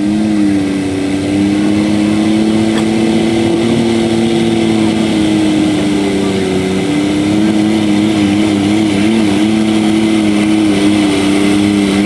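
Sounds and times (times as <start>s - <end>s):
tractor diesel engine at full throttle: 0.0s - 12.0s.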